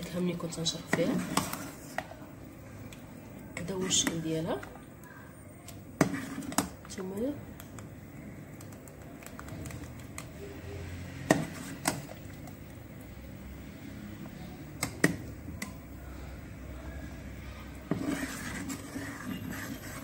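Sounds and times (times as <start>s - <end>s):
metal spoon stirring soup: 0.0s - 13.4s, 14.7s - 20.0s.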